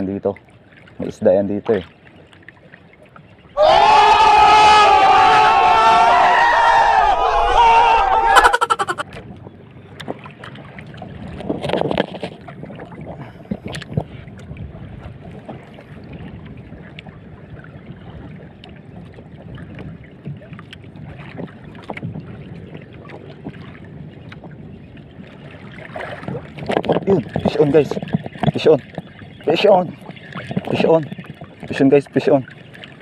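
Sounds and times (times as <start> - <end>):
water lapping around boat: 0.0 - 33.0
wind: 0.0 - 33.0.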